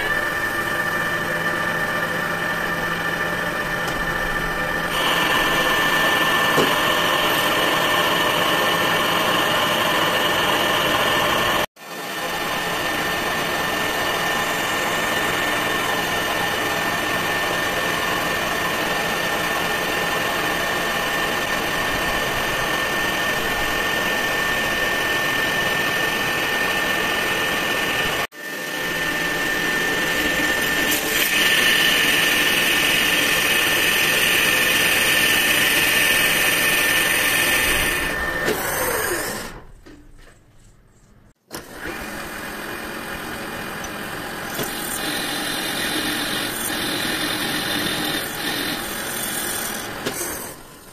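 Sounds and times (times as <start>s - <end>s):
metal lathe whining: 0.0s - 39.7s, 41.5s - 50.9s.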